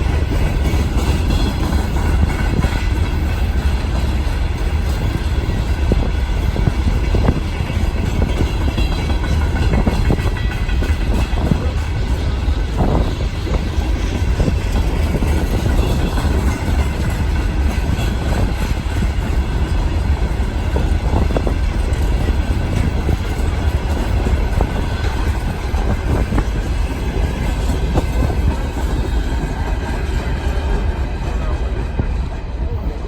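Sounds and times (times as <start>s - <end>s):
railway wagons rumbling past: 0.0s - 33.0s
wheels clacking over rail joints: 0.0s - 33.0s.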